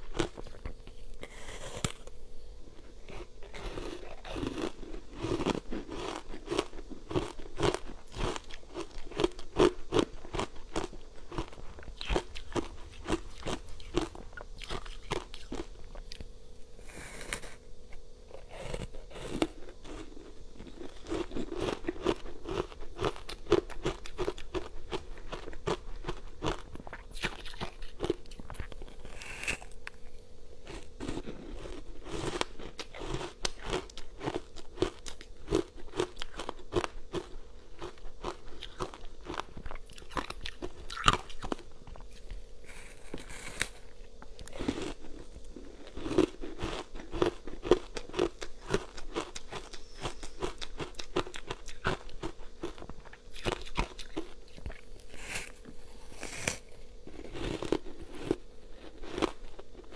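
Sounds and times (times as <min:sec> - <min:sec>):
ice crunching chewing: 0:00.0 - 0:02.1, 0:02.8 - 0:16.3, 0:18.3 - 0:59.9
faint steady hum: 0:00.0 - 0:59.9.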